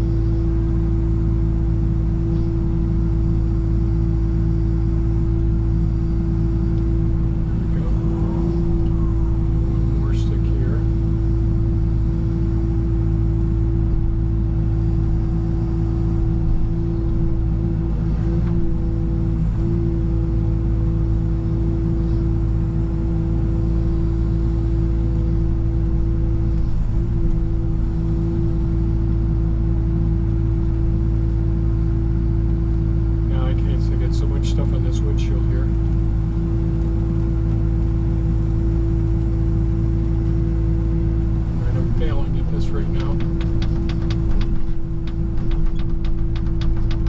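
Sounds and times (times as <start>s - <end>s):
excavator running: 0.0s - 47.0s
pitched whine: 0.0s - 47.0s.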